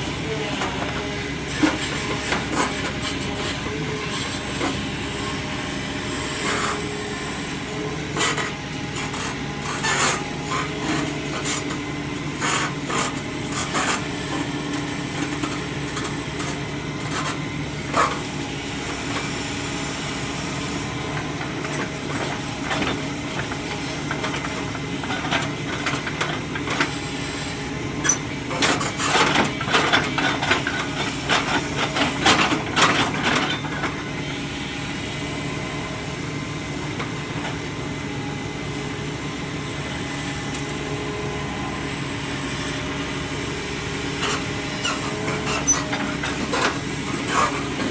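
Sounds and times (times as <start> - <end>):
excavator engine idling: 0.0 - 47.9.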